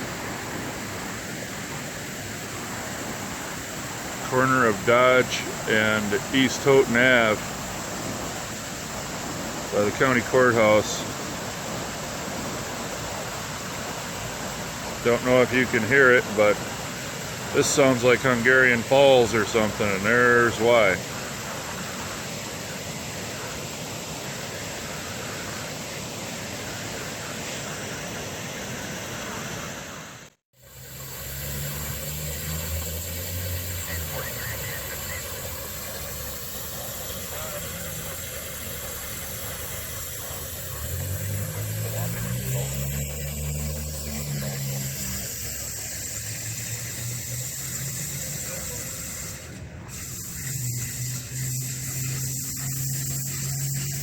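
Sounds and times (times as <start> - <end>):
floodwater rushing: 0.0 - 54.0
idling vehicle engine hum: 2.5 - 54.0.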